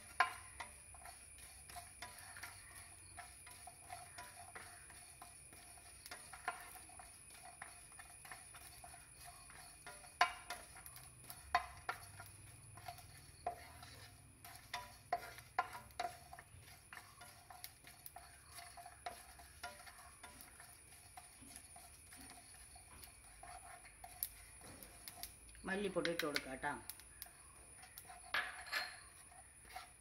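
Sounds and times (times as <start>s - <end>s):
wooden spatula scraping a pan: 0.0s - 30.0s.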